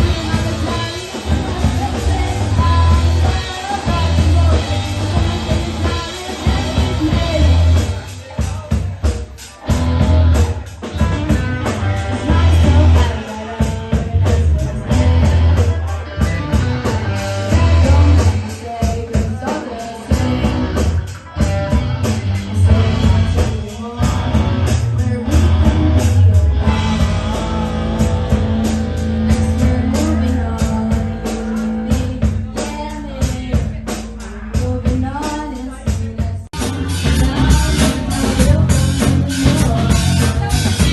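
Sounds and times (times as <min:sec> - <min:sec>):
person singing: 0:00.0 - 0:40.9
rock band playing live: 0:00.0 - 0:40.9.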